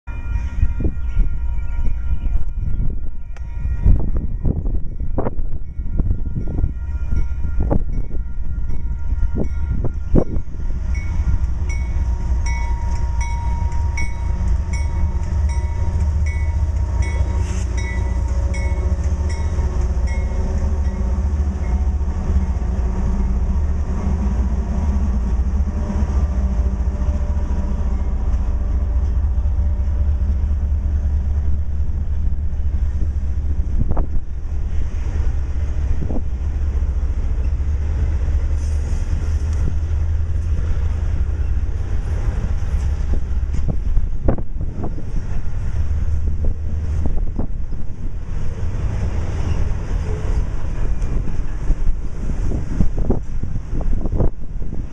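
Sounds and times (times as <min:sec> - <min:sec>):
freight train rumbling: 0:00.0 - 0:54.9.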